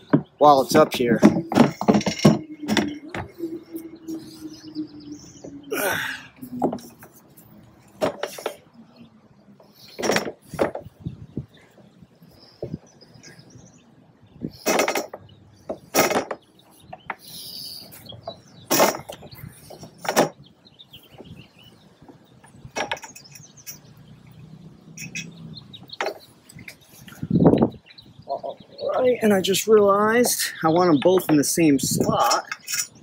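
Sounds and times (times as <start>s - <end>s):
bird chirping: 0.0s - 33.0s.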